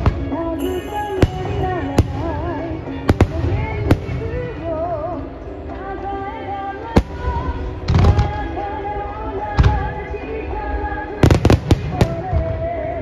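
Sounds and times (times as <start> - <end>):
fireworks bursting: 0.0 - 4.9, 6.9 - 13.0
music with wavering melody: 0.0 - 13.0.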